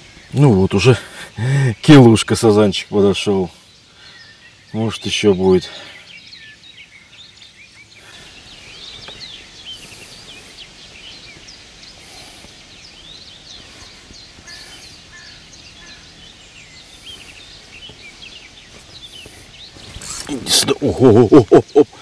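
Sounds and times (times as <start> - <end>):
birds chirping and whistling: 0.0 - 22.0.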